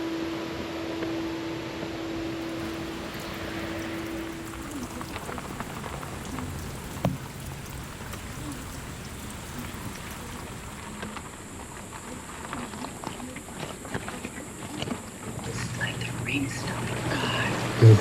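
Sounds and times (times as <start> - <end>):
rain falling: 2.2 - 18.0.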